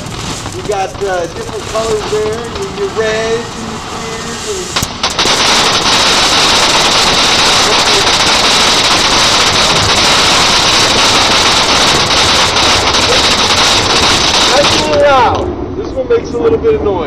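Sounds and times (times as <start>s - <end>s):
firework fountain hissing: 0.0s - 15.5s.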